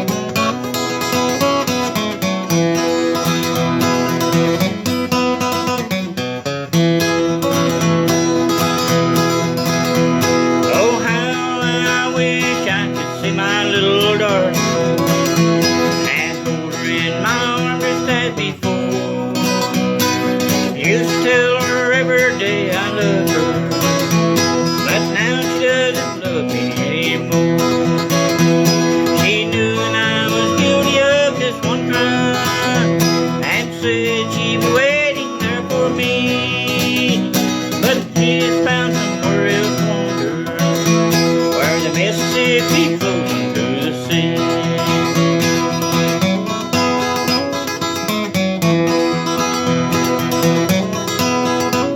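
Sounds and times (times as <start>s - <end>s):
acoustic guitar bluegrass music: 0.0s - 51.9s.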